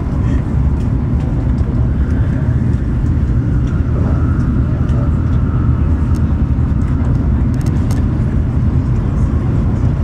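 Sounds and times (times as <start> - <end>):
faint hum: 0.0 - 10.0
train cabin low rumble: 0.0 - 10.0.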